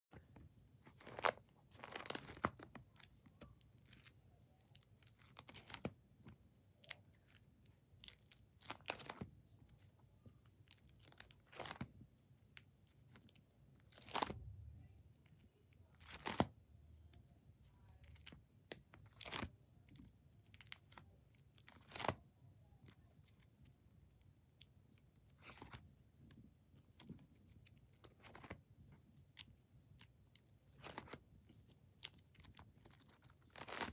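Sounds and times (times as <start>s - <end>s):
plastic binder pages crinkling: 0.2s - 14.4s, 15.2s - 16.6s, 17.9s - 33.9s.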